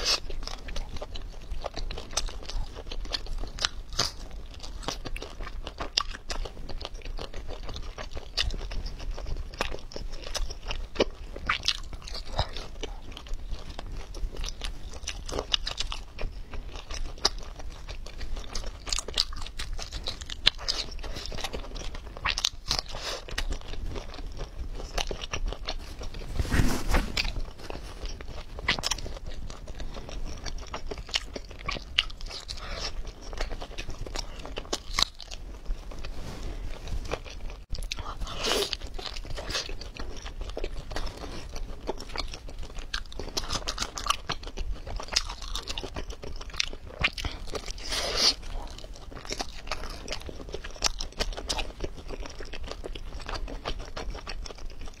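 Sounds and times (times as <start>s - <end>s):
biting and chewing mouth sounds: 0.0s - 55.0s.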